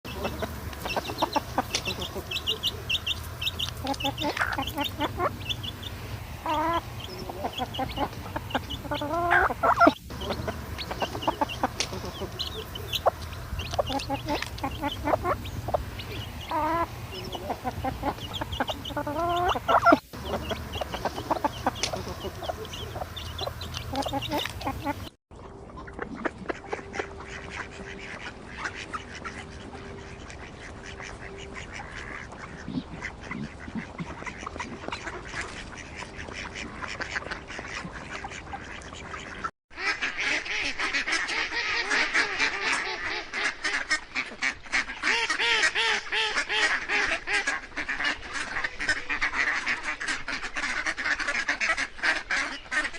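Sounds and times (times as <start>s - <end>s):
chickens clucking: 0.0s - 52.9s
ducks quacking: 0.0s - 52.9s
geese honking: 0.0s - 52.9s.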